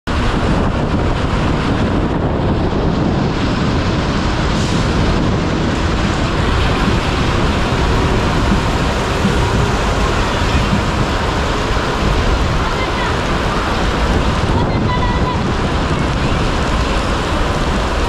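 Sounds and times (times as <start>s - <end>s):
heavy rain pouring: 0.0s - 18.0s
train rumbling past: 0.1s - 18.0s.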